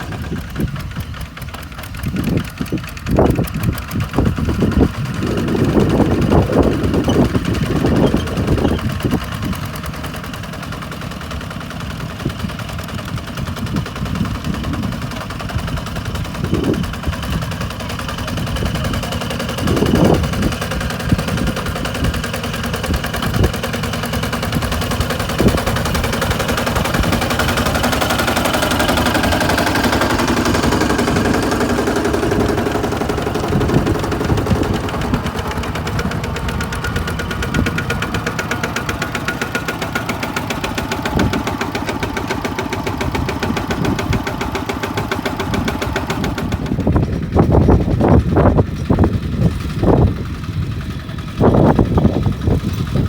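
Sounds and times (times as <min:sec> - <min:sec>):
diesel tractor engine running hard: 0:00.0 - 0:53.0.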